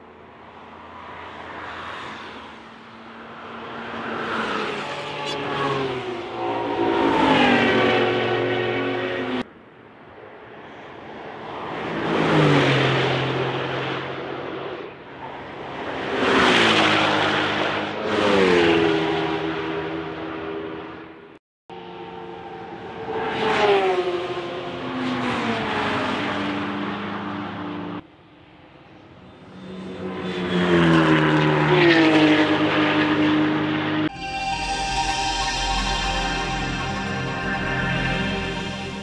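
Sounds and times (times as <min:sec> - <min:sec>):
cars passing at speed: 0:00.0 - 0:34.2.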